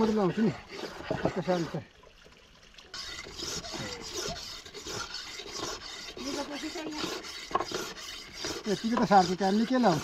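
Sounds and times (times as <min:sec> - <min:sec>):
rough rasping strokes: 0:00.0 - 0:01.9, 0:02.9 - 0:10.0.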